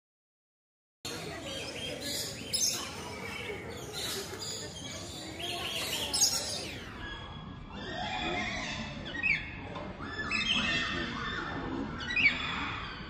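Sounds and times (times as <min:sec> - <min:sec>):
aviary background: 0:01.0 - 0:13.0
lorikeets chirping and screeching: 0:01.1 - 0:13.0.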